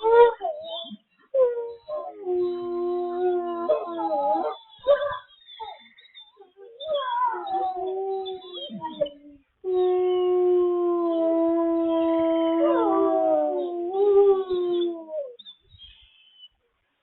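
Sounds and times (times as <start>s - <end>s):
wolves howling: 0.0s - 5.3s, 6.5s - 15.4s.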